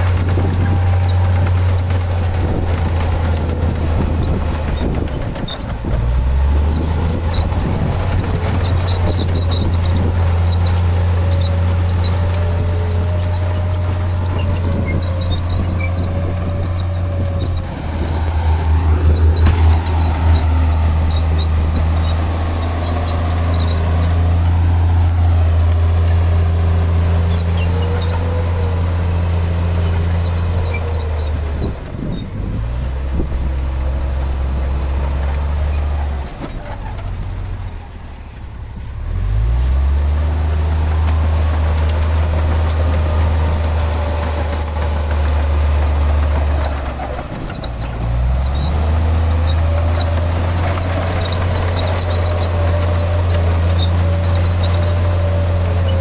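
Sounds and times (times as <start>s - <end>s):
heavy diesel engine working: 0.0s - 56.0s.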